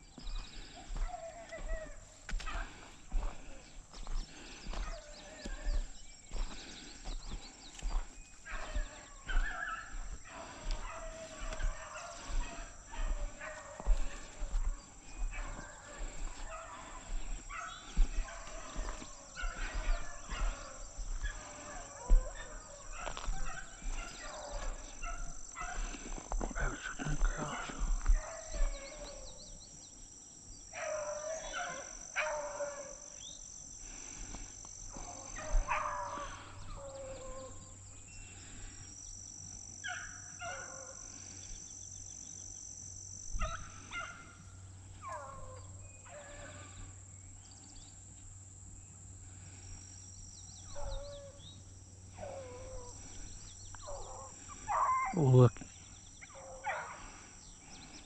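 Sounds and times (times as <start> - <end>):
beagles baying: 0.0 - 29.7, 30.6 - 33.2, 33.8 - 38.9, 39.8 - 41.4, 43.3 - 47.0, 50.6 - 58.0.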